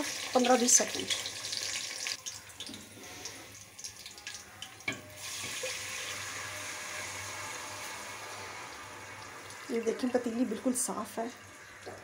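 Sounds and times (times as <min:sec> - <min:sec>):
food crackling in hot oil: 0:00.0 - 0:12.0.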